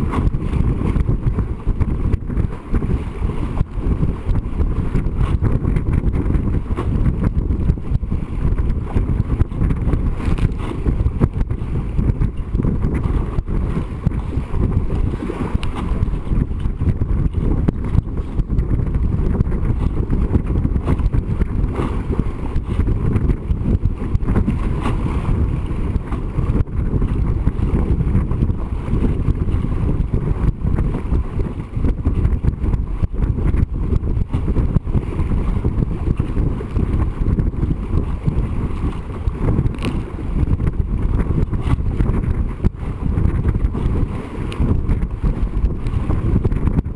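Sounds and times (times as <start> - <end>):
water rushing along hull: 0.0 - 46.9
wind buffeting microphone: 0.0 - 46.9.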